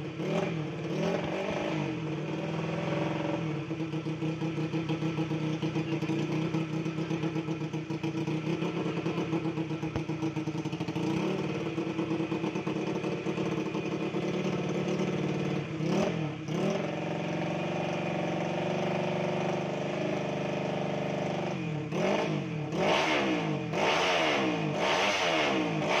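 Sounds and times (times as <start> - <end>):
scooter engine idling and revving: 0.0 - 26.0.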